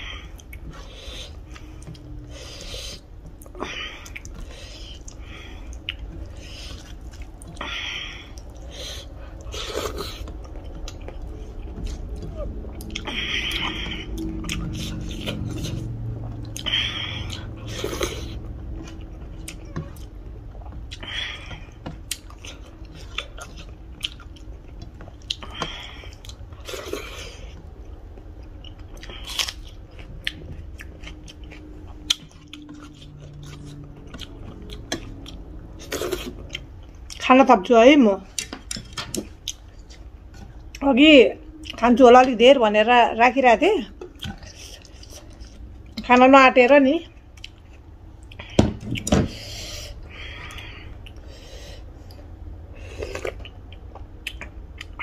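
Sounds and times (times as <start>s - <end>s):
chewing and mouth smacking: 0.3s - 37.3s, 38.3s - 40.8s, 41.5s - 41.8s, 44.0s - 46.1s, 47.1s - 49.1s, 52.0s - 55.0s.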